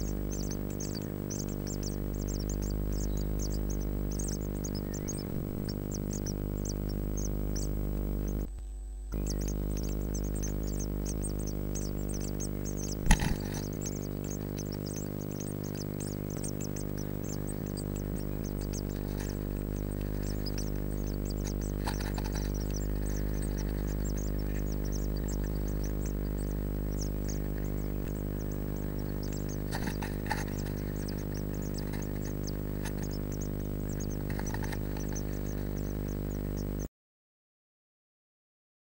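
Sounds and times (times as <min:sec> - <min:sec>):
nestlings begging peeps: 0:00.0 - 0:08.5, 0:09.1 - 0:36.9
low electrical hum: 0:00.0 - 0:36.9.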